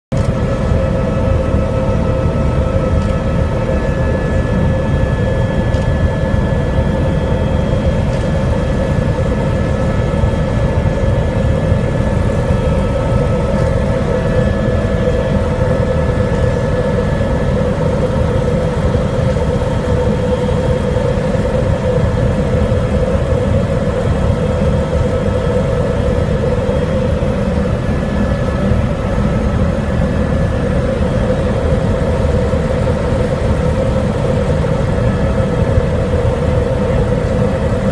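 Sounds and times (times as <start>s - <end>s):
helicopter engine and rotor rumble: 0.1s - 37.9s.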